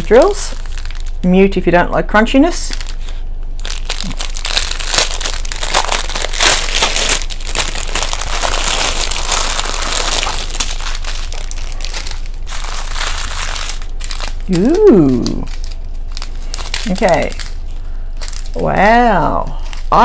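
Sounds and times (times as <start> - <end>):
plastic bags crinkling: 0.0 - 1.3, 2.6 - 20.0.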